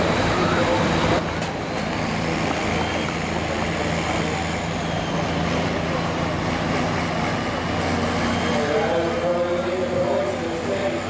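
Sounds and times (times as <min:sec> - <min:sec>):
distant diesel tractor engine: 0:00.0 - 0:11.0.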